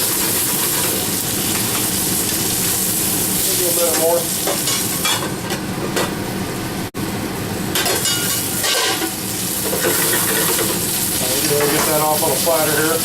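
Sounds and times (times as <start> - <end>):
chicken sizzling in a frying pan: 0.0 - 5.4, 7.7 - 13.0.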